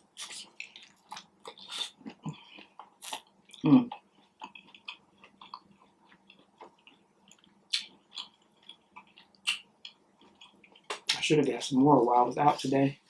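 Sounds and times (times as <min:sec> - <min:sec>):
person chewing with mouth smacks: 0:00.1 - 0:11.2.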